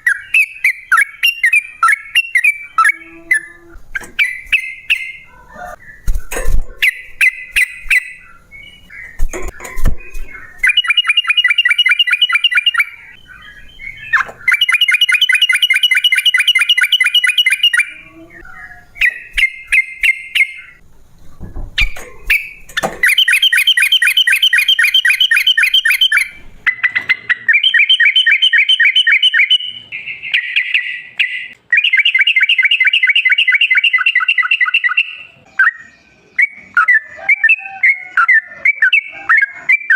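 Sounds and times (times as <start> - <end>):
bulbul singing: 0.0 - 20.8, 21.8 - 39.9.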